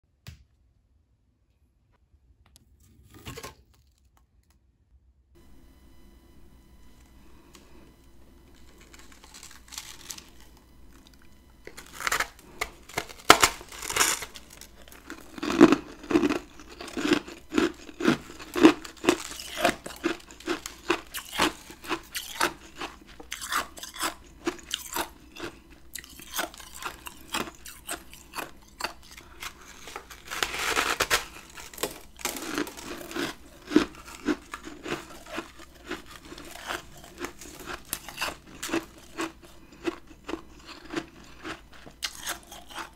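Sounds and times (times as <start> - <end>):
person crunching and chewing ice: 7.2 - 42.9.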